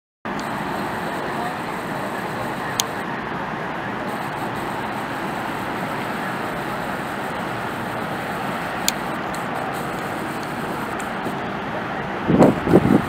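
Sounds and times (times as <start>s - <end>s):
outdoor background roar: 0.3s - 13.0s.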